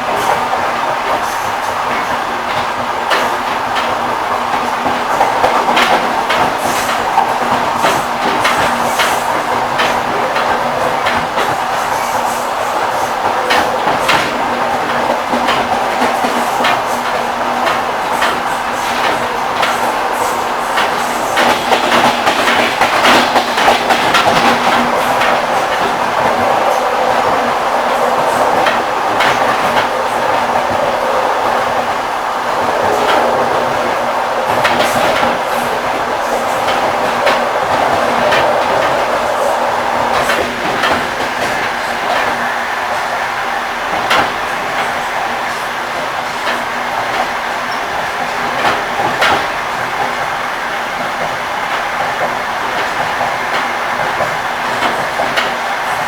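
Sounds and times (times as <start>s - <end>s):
train wheels rolling rumble: 0.0s - 56.0s
wheels clacking at rail joints: 0.0s - 56.0s.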